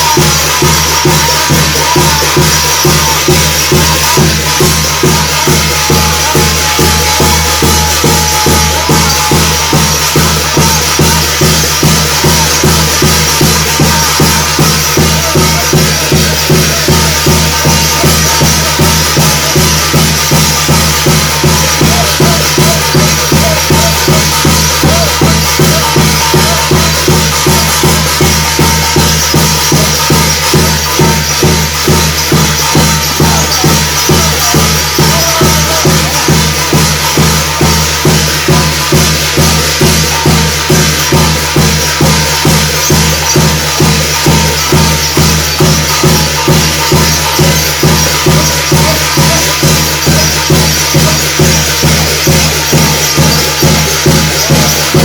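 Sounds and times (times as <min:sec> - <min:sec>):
drum beating: 0:00.0 - 0:55.0
rattling percussion: 0:00.0 - 0:55.0.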